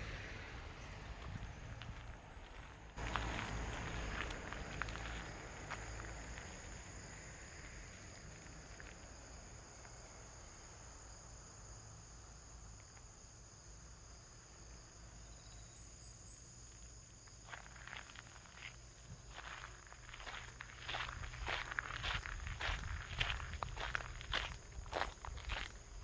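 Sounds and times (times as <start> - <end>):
low outdoor rumble: 0.0 - 15.2, 17.2 - 26.0
insects chirring: 0.1 - 26.0.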